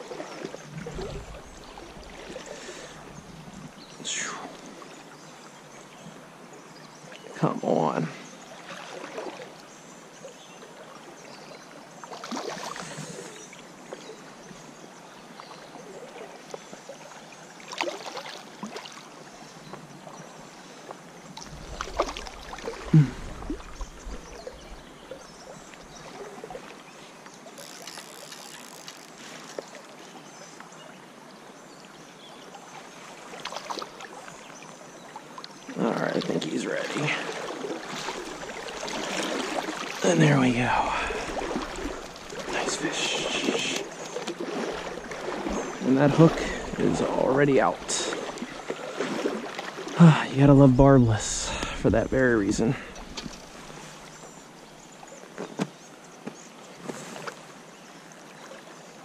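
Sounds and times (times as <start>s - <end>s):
creek water running: 0.0s - 59.0s.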